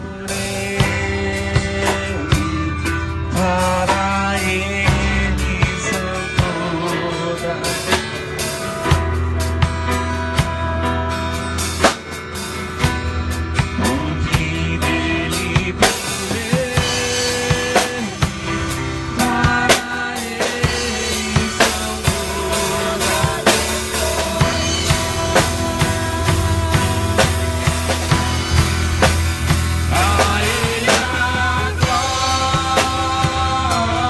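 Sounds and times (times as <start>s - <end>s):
band playing instrumental music: 0.0s - 34.0s
bass line: 0.0s - 34.0s
drum kit beat: 0.0s - 34.0s.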